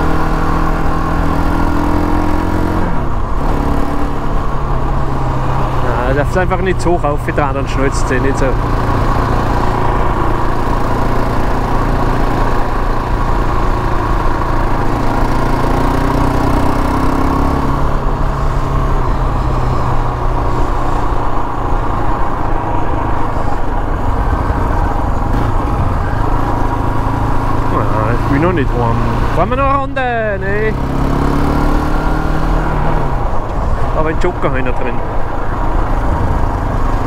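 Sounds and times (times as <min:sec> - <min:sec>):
quad engine running steadily: 0:00.0 - 0:37.0.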